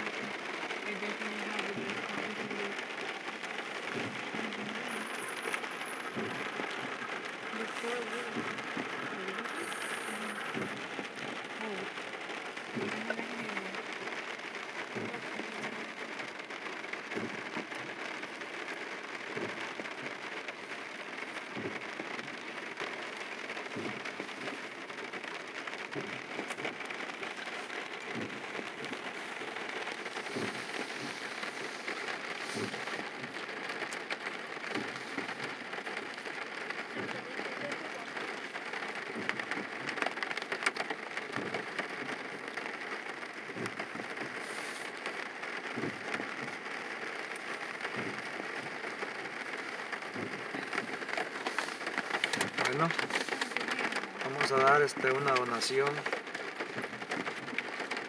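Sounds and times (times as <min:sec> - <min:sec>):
rain on car roof: 0:00.0 - 0:58.0.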